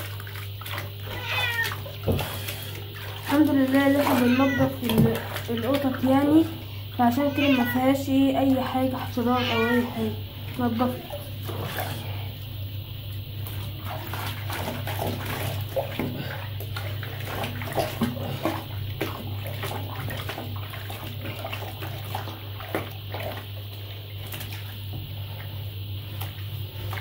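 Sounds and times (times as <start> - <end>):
bathwater sloshing and splashing: 0.0 - 27.0
steady low hum: 0.0 - 27.0.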